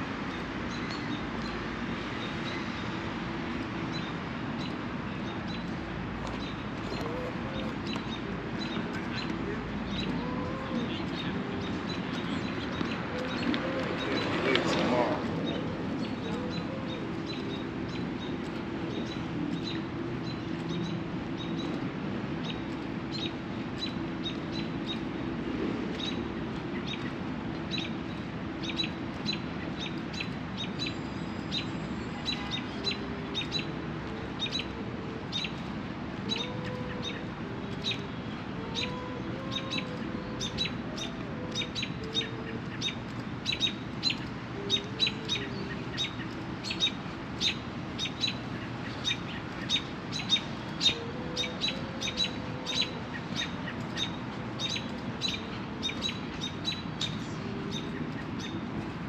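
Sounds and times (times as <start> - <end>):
small birds chirping: 0.2 - 59.0.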